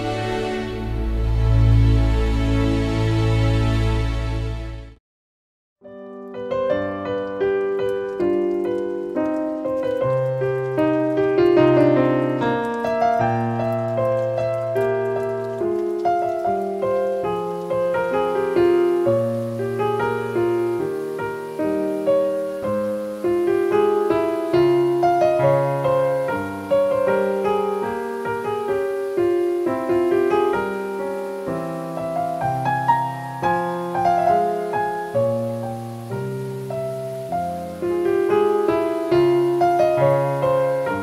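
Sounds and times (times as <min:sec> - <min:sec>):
piano music: 0:00.0 - 0:05.0, 0:05.8 - 0:41.0.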